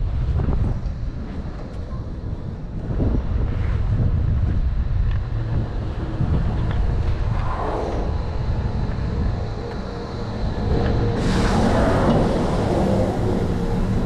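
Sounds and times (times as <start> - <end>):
chairlift machinery hum: 0.0 - 14.0
wind rumble on microphone: 0.0 - 14.0.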